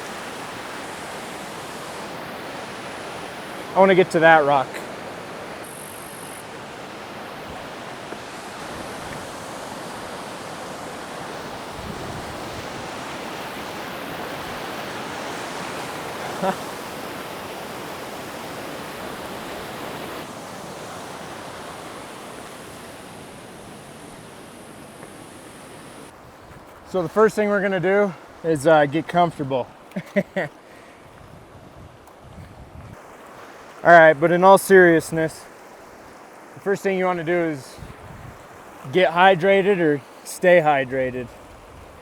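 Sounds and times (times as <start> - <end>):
waterfall and river rushing: 0.0 - 26.2, 33.0 - 42.0.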